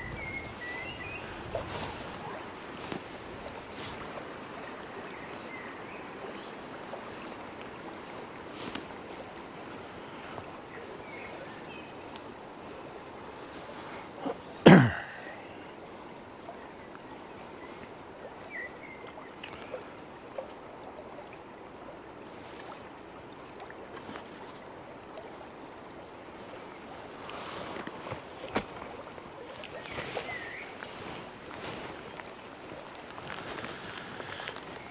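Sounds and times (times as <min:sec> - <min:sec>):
flooded river rushing: 0:00.0 - 0:20.9, 0:25.9 - 0:34.9.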